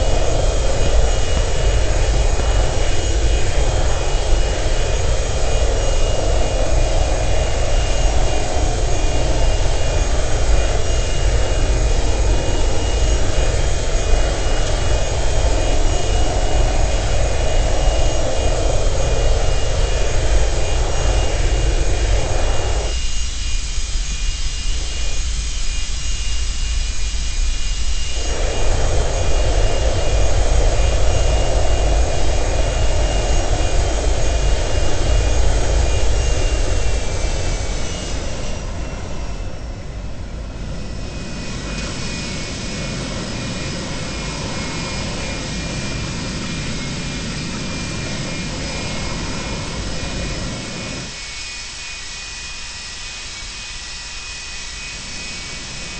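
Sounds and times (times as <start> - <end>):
jet engines running with whine: 0.0 - 55.9.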